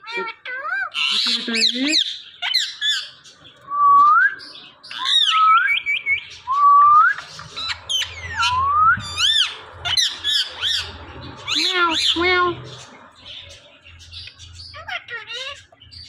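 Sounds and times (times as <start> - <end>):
parakeets calling: 0.0 - 16.0.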